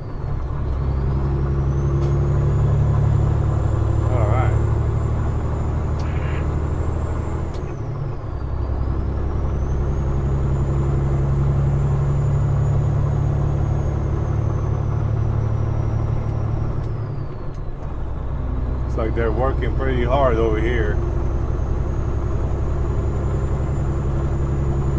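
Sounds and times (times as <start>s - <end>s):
diesel engine drone: 0.0s - 24.9s.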